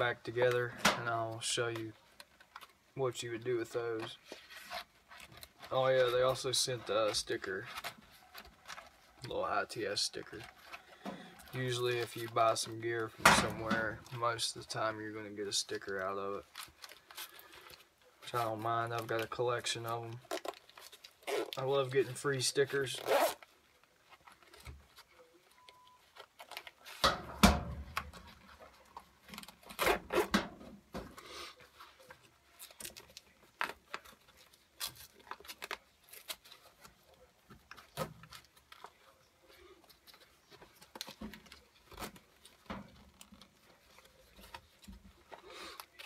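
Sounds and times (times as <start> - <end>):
nylon pouch rustling: 0.0 - 46.0.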